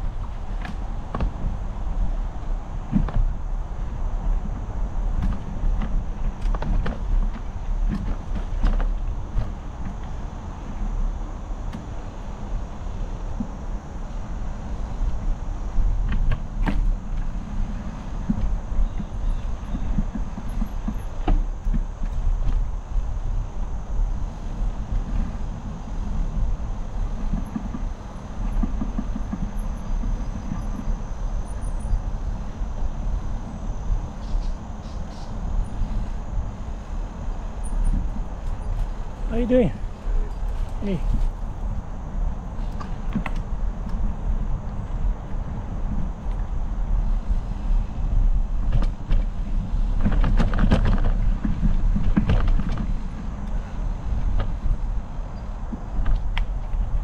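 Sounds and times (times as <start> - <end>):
bike rattling over bumps: 0.0 - 57.0
bike tyres rumbling on dirt: 0.0 - 57.0
wind buffeting microphone: 0.0 - 57.0.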